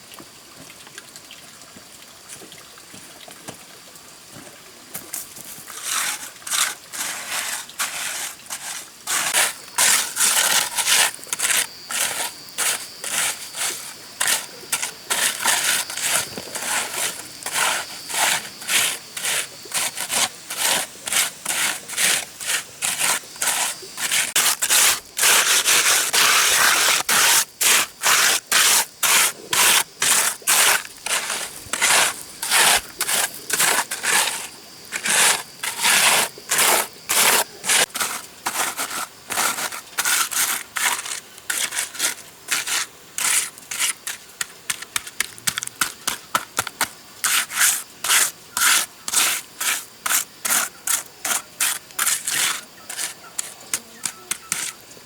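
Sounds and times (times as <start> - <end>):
rasping scraping strokes: 5.7 - 44.8, 47.2 - 54.8.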